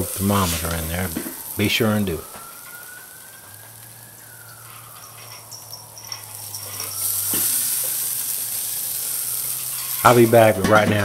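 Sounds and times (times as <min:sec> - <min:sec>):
distant siren wailing: 0:00.0 - 0:11.0
sizzling on hot grill: 0:00.0 - 0:11.0.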